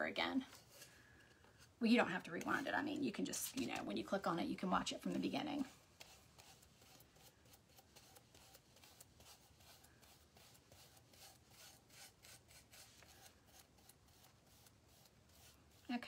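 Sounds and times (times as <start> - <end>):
paintbrush scratching on wood: 1.9 - 16.0.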